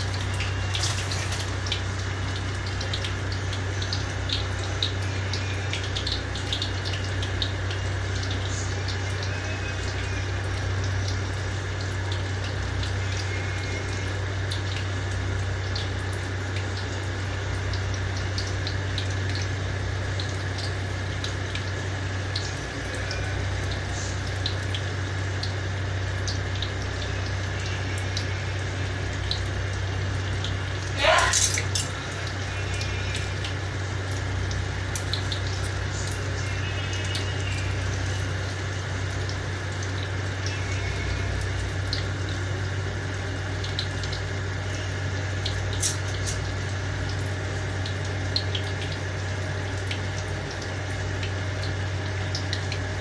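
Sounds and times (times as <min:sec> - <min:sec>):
food deep-frying in oil: 0:00.0 - 0:53.0.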